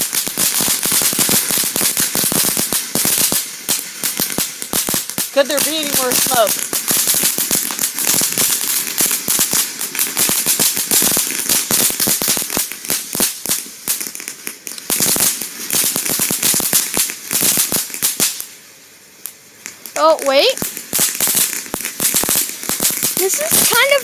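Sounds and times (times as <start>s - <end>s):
firecrackers popping: 0.0s - 24.0s.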